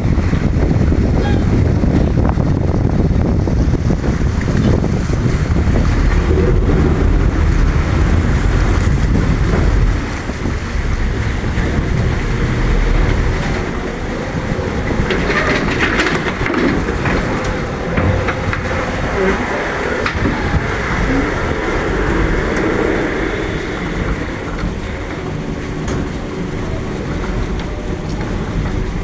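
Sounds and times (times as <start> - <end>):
ferry low rumbling: 0.0 - 29.0
wind buffeting microphone: 0.0 - 29.0.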